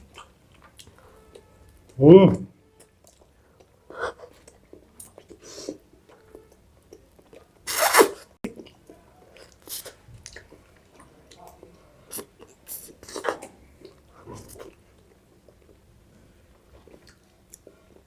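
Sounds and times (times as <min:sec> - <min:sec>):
mouth sounds of eating: 0:00.0 - 0:15.9.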